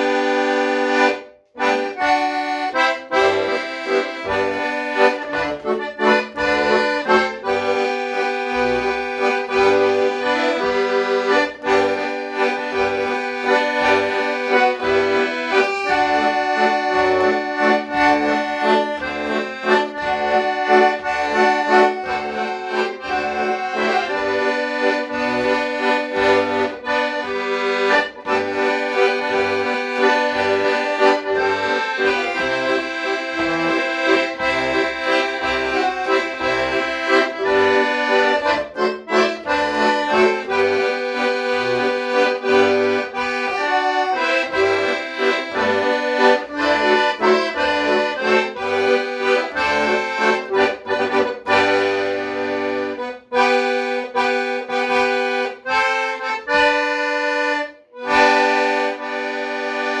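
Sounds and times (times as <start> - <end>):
piano accordion playing a tune: 0.0 - 60.0.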